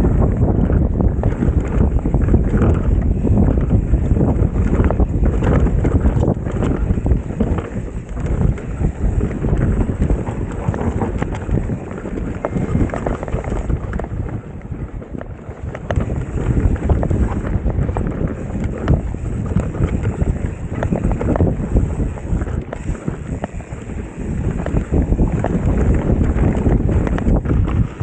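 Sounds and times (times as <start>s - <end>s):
bike clattering over bumps: 0.0s - 28.0s
tyres rolling on dirt: 0.0s - 28.0s
wind rushing over microphone: 0.0s - 28.0s.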